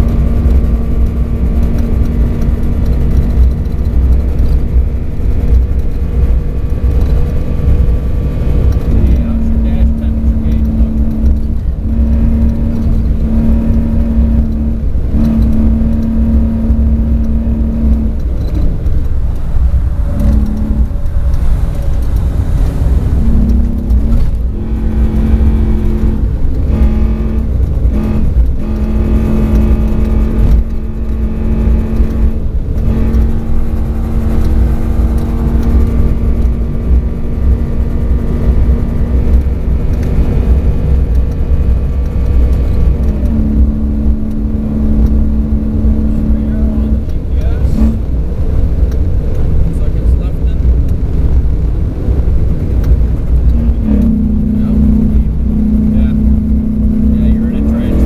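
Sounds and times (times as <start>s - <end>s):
truck engine running: 0.0s - 58.0s
tyres and wind rumble: 0.0s - 58.0s.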